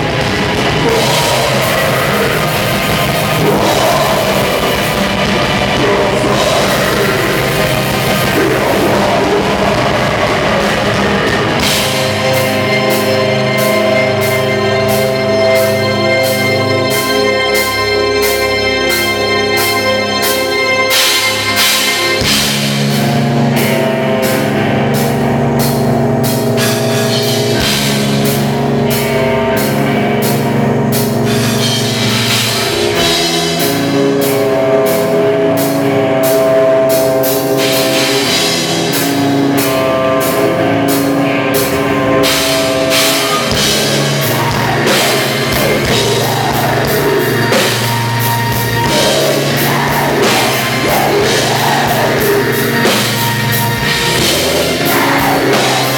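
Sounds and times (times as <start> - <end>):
fast drum kit and cymbals: 0.0 - 17.8, 19.7 - 55.9
distorted guitar and bass: 0.0 - 55.9
held keyboard chords: 0.0 - 55.9
metal band playing loudly: 0.0 - 55.9.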